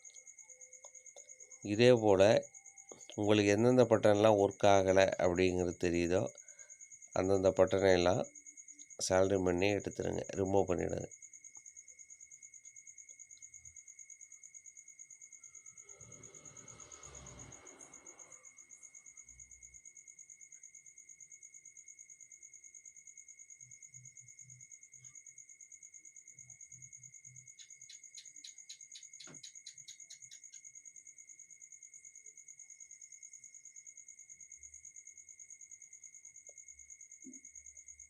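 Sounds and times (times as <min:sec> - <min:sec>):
cricket chirping: 0:00.0 - 0:38.0.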